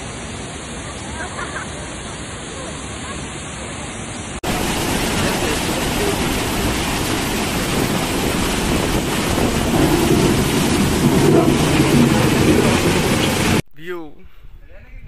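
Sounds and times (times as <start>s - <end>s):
floodwater rushing torrent: 0.0s - 13.6s.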